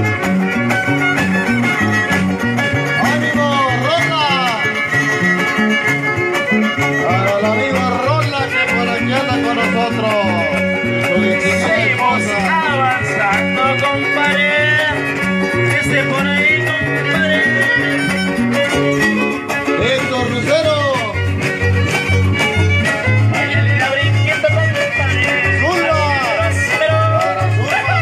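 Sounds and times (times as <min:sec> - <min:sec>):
bass guitar notes: 0:00.0 - 0:28.0
strummed guitar: 0:00.0 - 0:28.0
violin sliding melody: 0:00.0 - 0:28.0.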